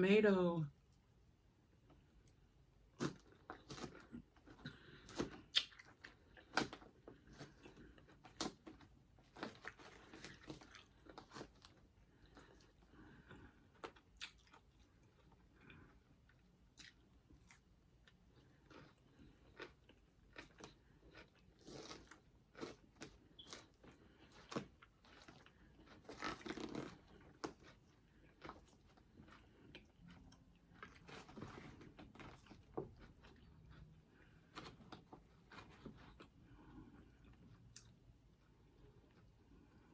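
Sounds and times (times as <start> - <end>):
crunchy chewing: 3.0 - 37.9.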